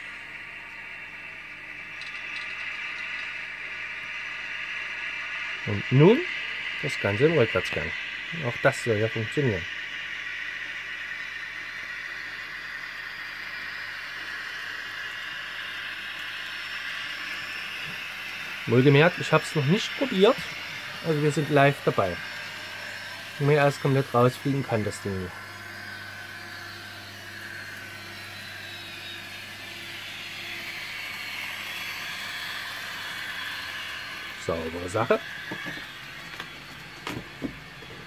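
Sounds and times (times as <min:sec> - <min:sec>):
model train whirring: 0:00.0 - 0:38.0.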